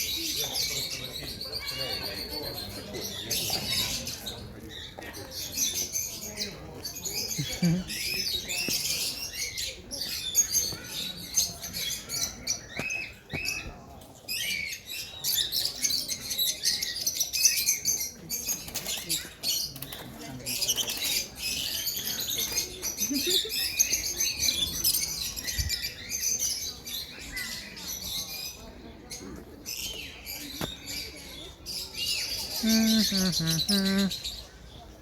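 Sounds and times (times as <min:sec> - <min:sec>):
small birds chirping and twittering: 0:00.0 - 0:35.0.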